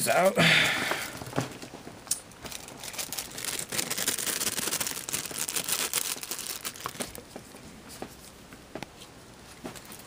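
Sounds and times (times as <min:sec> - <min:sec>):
rustling handling noise: 0:01.0 - 0:10.0.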